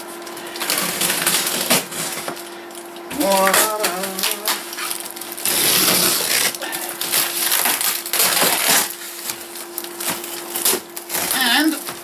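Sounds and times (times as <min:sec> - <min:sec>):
packing tape ripping off box: 0:00.5 - 0:02.4, 0:03.1 - 0:12.0.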